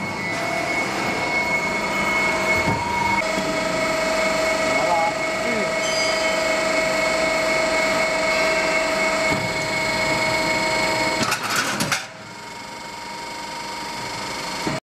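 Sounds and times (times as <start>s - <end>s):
roll forming machine whine: 0.0s - 14.8s.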